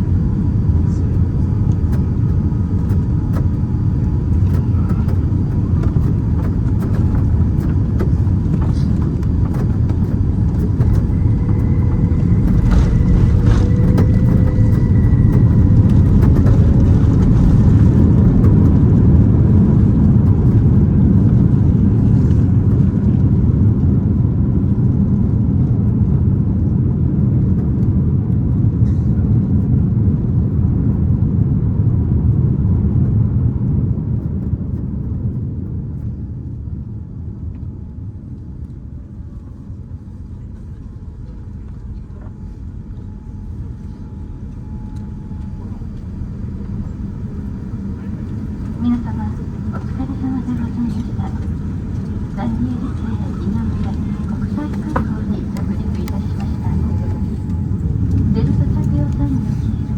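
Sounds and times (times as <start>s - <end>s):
aircraft cabin engine rumble: 0.0s - 59.9s
faint whine: 0.0s - 59.9s.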